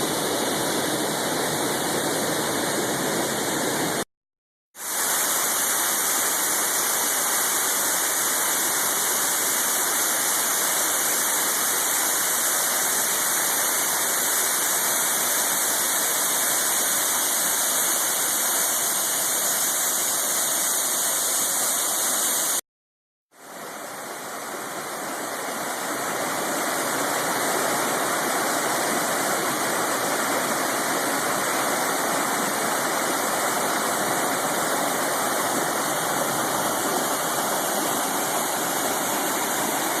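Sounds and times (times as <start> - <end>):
waterfall rushing: 0.0 - 4.0, 4.8 - 22.6, 23.4 - 40.0.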